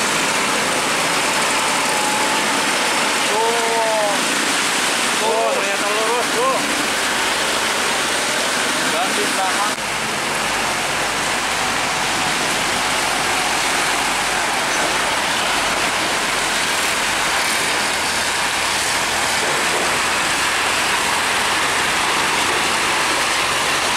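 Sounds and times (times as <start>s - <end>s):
rain hissing: 0.0s - 23.9s
truck engines: 0.0s - 23.9s
tyres on wet road: 0.0s - 23.9s.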